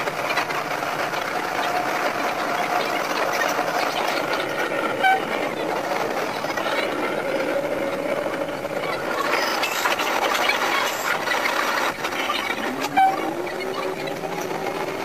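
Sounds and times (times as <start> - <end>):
railcar engine and wheel clatter: 0.0 - 15.0.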